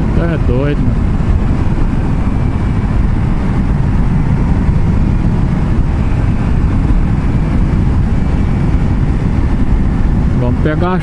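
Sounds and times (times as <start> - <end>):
road and engine rumble inside car: 0.0 - 11.0.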